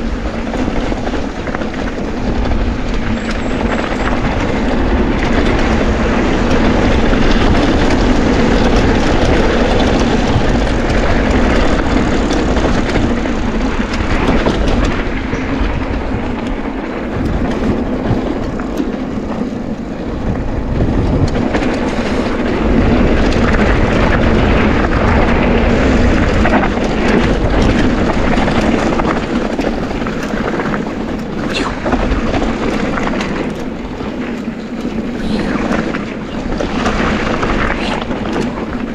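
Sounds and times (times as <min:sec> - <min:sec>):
bike tyres rolling over dirt and stones: 0:00.0 - 0:38.9.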